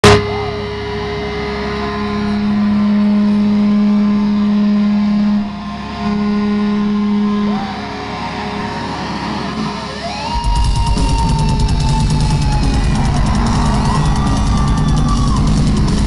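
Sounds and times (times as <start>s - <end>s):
distorted electric guitar and bass: 0.0s - 16.0s.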